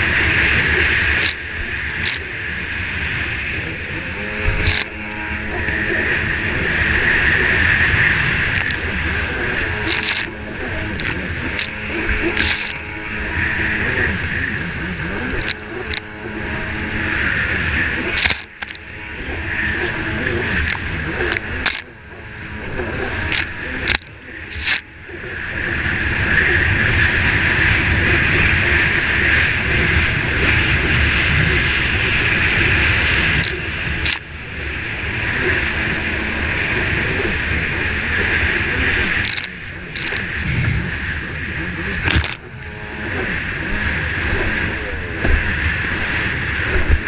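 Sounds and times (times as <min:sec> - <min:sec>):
jet ski engine at high revs: 0:00.0 - 0:47.0.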